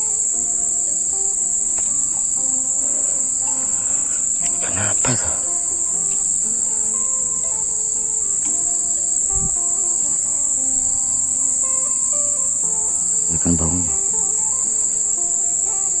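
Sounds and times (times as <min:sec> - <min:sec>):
faint background music: 0:00.0 - 0:16.0
insects droning: 0:00.0 - 0:16.0.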